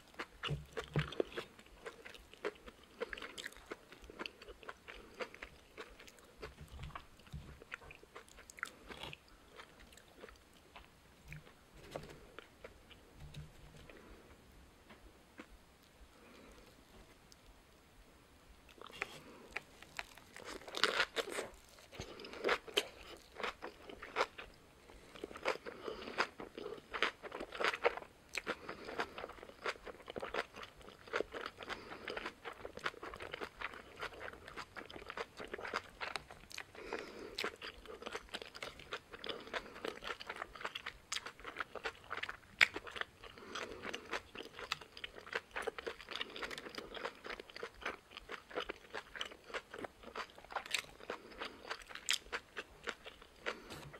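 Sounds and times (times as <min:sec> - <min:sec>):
crunchy chewing: 0:00.0 - 0:16.8, 0:18.7 - 0:53.9.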